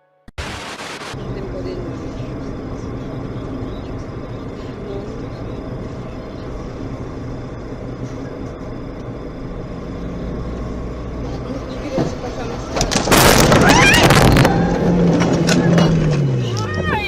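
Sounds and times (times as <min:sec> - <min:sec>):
vehicle engine and road rumble: 0:00.4 - 0:17.0.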